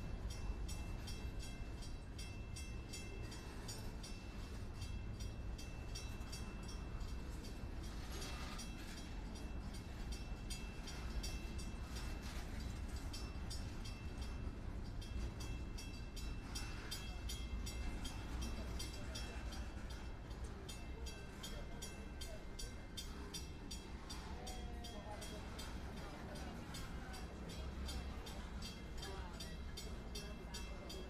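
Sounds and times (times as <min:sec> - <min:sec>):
steel wheels rumbling on rails: 0:00.0 - 0:31.0.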